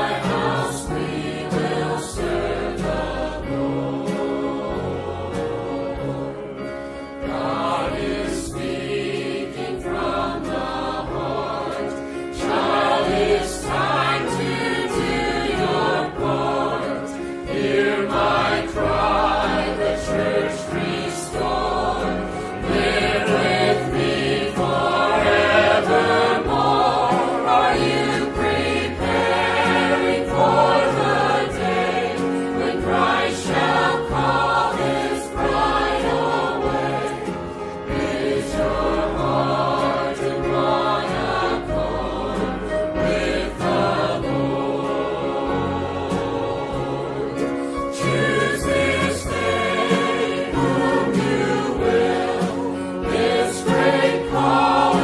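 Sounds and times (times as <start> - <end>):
choir singing a hymn: 0.0 - 55.0
held bass accompaniment: 0.0 - 55.0.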